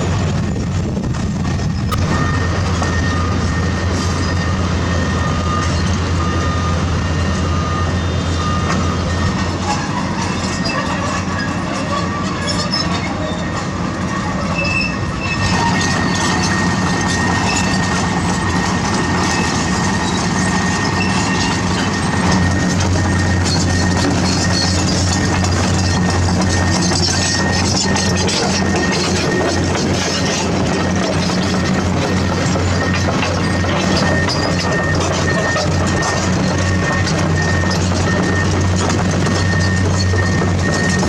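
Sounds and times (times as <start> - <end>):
diesel engine drone: 0.0 - 41.0
high track squeaks: 0.0 - 41.0
track links clanking: 0.0 - 41.0.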